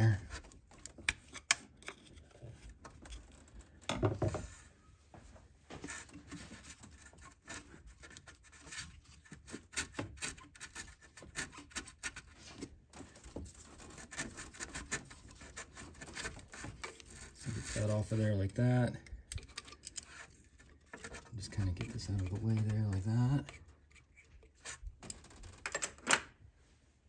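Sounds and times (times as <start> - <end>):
rubber hose scraping and rubbing: 0.0 - 25.6.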